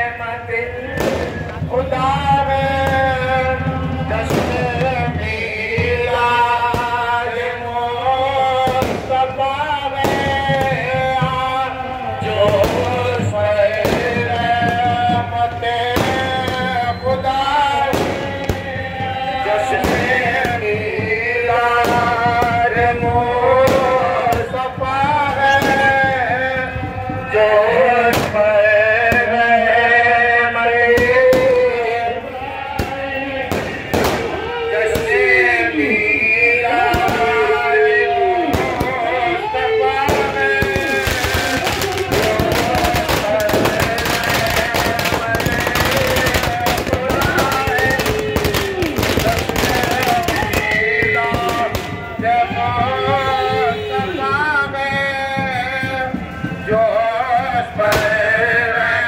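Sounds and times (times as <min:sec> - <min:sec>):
firecrackers banging: 0:00.0 - 0:59.0
loud amplified music: 0:00.0 - 0:59.0
man chanting long notes: 0:00.0 - 0:59.0.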